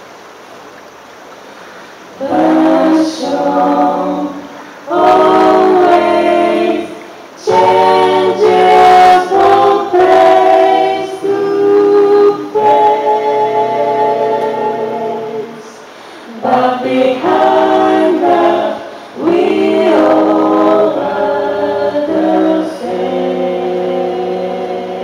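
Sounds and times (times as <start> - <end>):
a cappella group singing: 2.2 - 25.0.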